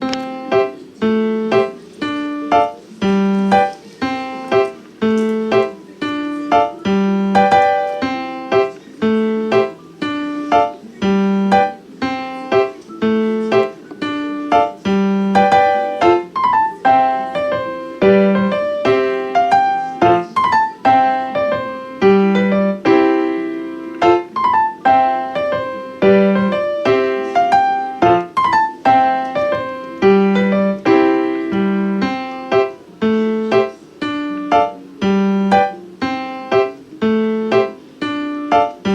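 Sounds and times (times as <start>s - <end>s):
piano melody with bass figure: 0.0s - 38.9s.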